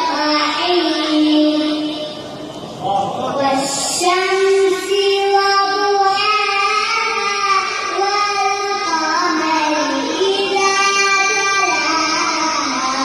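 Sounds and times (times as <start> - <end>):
child chanting melodically: 0.0 - 2.4, 3.0 - 13.0.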